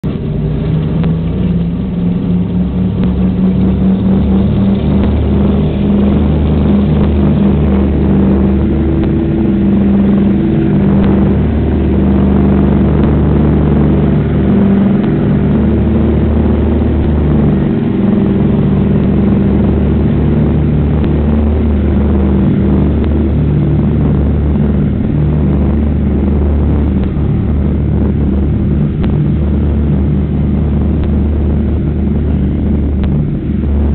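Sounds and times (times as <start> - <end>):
propeller plane engines droning: 0.0 - 33.9.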